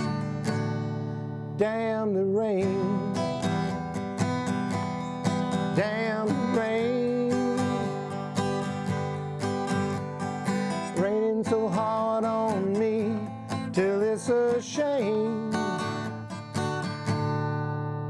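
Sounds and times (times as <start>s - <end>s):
acoustic guitar strumming: 0.0s - 18.0s
sliding guitar melody: 0.0s - 18.0s.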